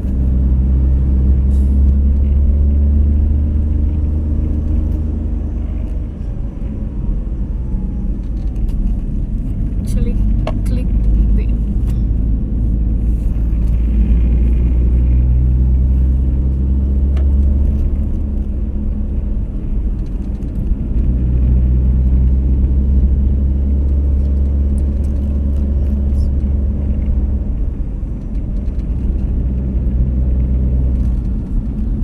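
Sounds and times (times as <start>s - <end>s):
road rumble: 0.0s - 32.0s
vehicle engine hum: 0.0s - 32.0s.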